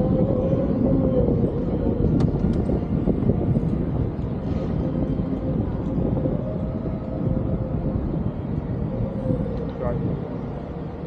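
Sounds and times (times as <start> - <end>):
city traffic noise: 0.0 - 11.0
wind rumbling on microphone: 0.0 - 11.0.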